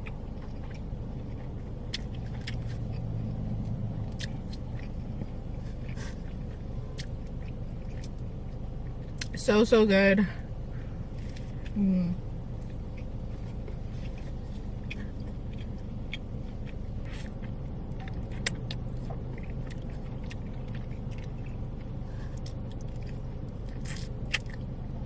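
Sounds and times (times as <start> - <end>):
person chewing: 0.0 - 9.4, 10.6 - 25.0
steady low hum: 0.0 - 25.0.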